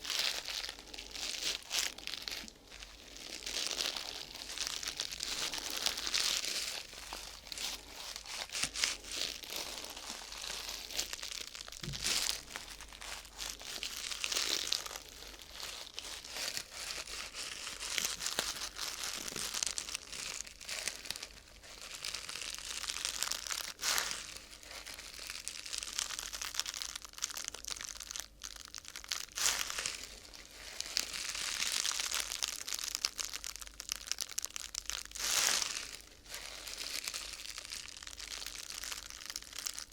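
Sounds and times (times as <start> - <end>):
thin sheet material crinkling: 0.0 - 39.9.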